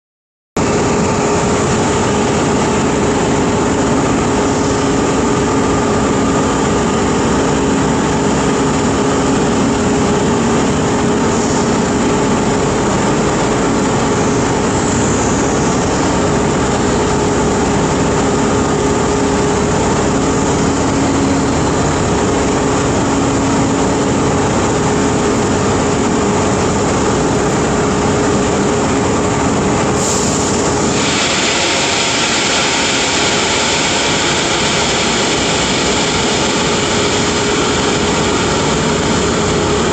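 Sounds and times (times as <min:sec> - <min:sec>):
workshop machinery drone: 0:00.6 - 0:39.9.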